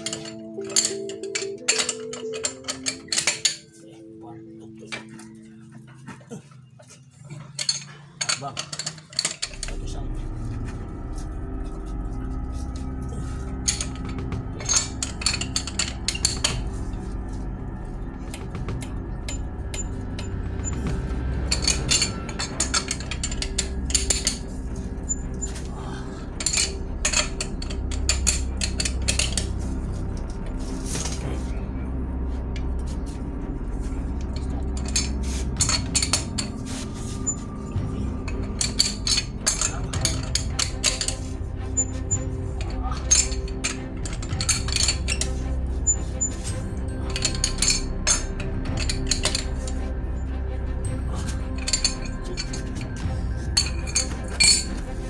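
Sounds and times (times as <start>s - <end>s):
metal hand tools clinking: 0.0s - 4.2s, 7.2s - 10.9s, 12.7s - 17.4s, 18.3s - 31.5s, 33.8s - 55.0s
background music: 0.0s - 55.0s
steady low hum: 9.4s - 55.0s.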